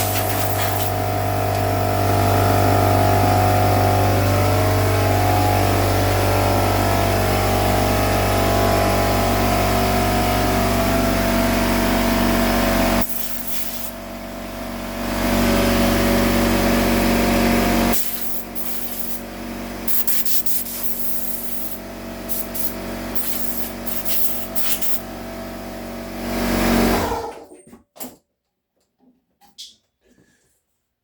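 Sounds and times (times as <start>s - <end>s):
electric power tool running: 0.0s - 27.4s.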